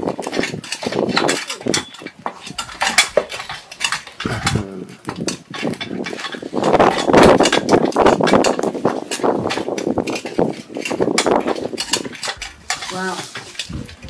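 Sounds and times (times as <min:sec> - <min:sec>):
utensil scraping in cooking pot: 0:00.0 - 0:14.0.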